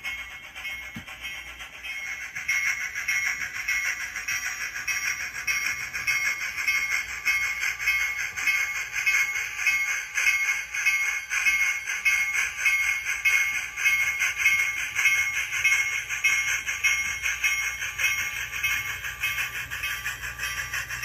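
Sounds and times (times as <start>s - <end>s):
locomotive bell ringing: 0.0s - 21.0s
steam locomotive chuffs from speaker: 0.0s - 21.0s.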